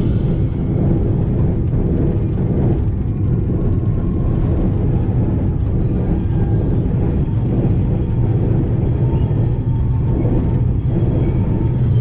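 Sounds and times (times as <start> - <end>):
diesel locomotive rumble: 0.0 - 12.0
wind noise: 0.0 - 12.0.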